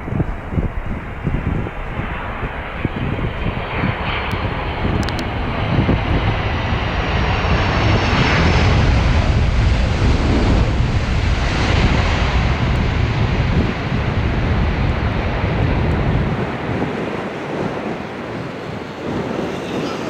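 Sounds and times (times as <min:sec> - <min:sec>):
jet engine rumble with high whine: 0:00.0 - 0:20.0.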